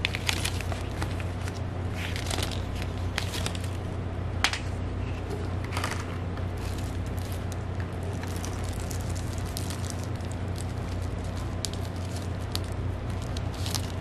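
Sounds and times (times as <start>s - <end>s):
paper sheet rustling: 0.0s - 3.8s, 5.0s - 14.0s
plastic packaging crinkling: 0.0s - 3.8s, 5.7s - 14.0s.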